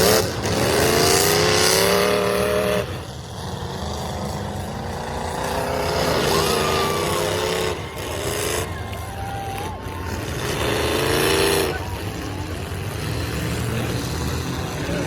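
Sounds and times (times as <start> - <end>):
truck engines revving hard: 0.0 - 15.0.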